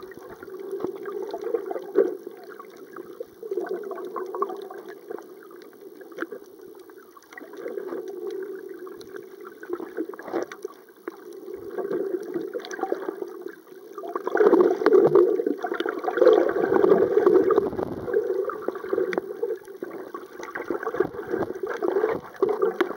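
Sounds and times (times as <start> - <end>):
underwater gurgling and sloshing: 0.0 - 22.9.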